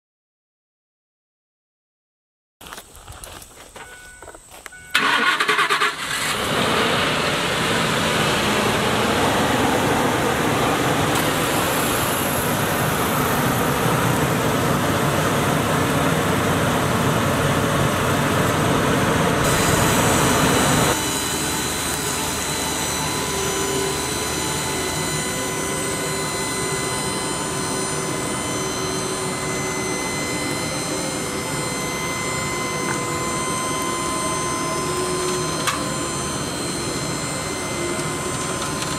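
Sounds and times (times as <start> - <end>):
faint engine whine: 2.8 - 38.9
truck engine cranking and running: 3.2 - 38.9.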